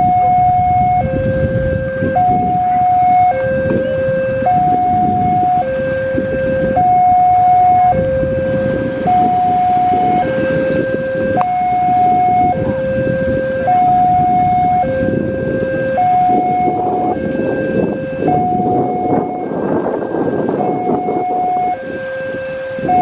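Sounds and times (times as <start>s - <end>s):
level crossing two-tone alarm: 0.0s - 23.0s.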